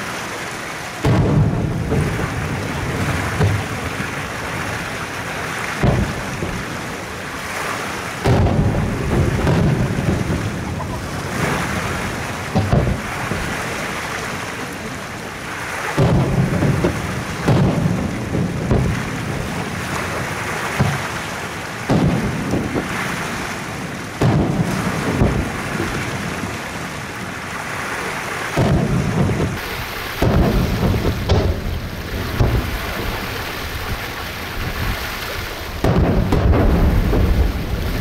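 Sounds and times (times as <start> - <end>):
fireworks booming: 1.0 - 27.3, 28.5 - 38.0.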